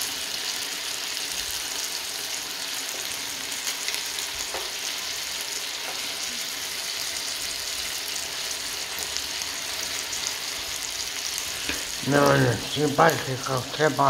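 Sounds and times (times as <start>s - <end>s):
chicken frying in oil: 0.0s - 14.0s
tongs turning food in pan: 0.1s - 14.0s.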